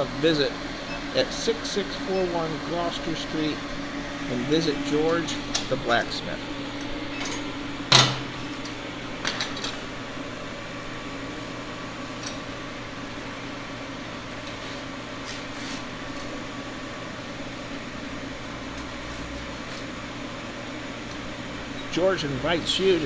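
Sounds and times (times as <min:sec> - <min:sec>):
fan hum: 0:00.0 - 0:23.0.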